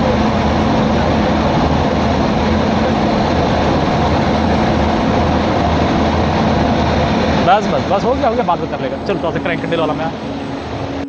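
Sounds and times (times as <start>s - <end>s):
train engine idling: 0.0s - 11.0s.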